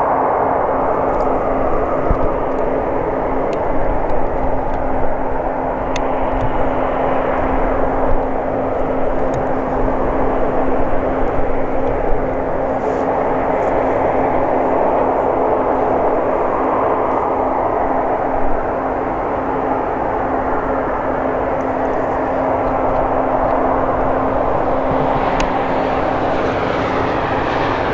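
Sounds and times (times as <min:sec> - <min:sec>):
combine harvester running: 0:00.9 - 0:27.9.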